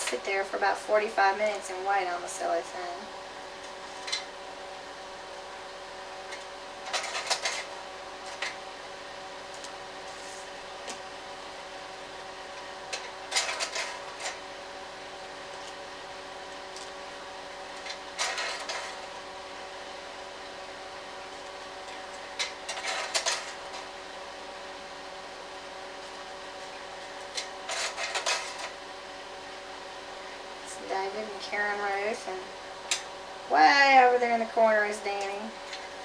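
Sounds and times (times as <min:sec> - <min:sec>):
projector cooling fan humming: 0:00.0 - 0:36.0.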